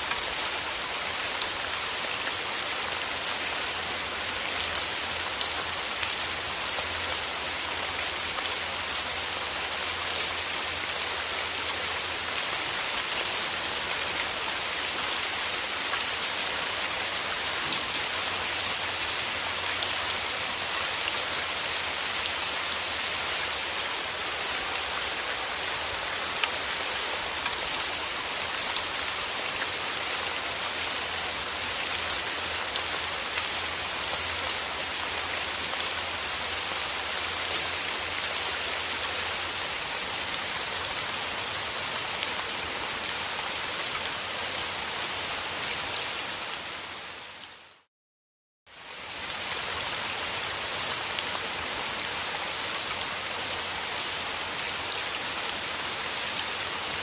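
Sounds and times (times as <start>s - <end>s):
steady rain falling: 0.0s - 47.9s, 48.7s - 57.0s.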